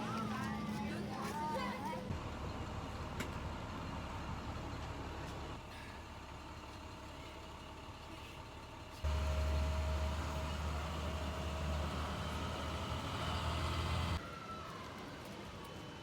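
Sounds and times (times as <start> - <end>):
bus engine rumbling: 0.0 - 14.2.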